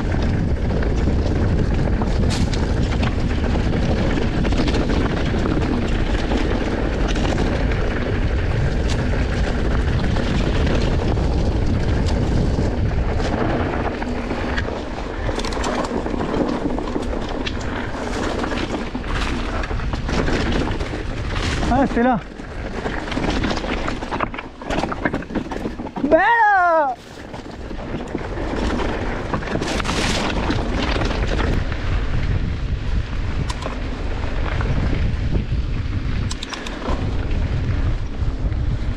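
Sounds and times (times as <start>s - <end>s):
bike knocking and rattling: 0.0s - 38.9s
bike tyres on rocky trail: 0.0s - 38.9s
wind buffeting microphone: 0.0s - 38.9s.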